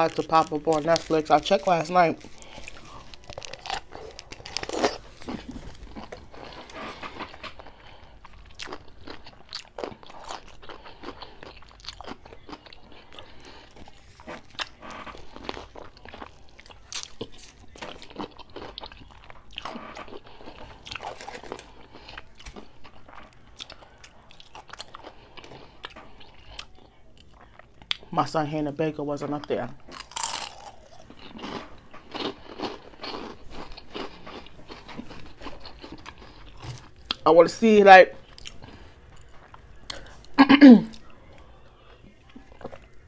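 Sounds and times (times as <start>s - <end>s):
pickle crunching when chewed: 0.0s - 28.1s, 29.5s - 37.3s, 38.2s - 41.5s.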